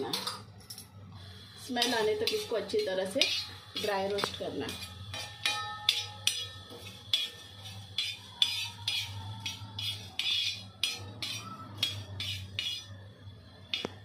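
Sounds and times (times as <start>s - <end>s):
steel spoon scraping spices in pan: 1.2s - 14.0s.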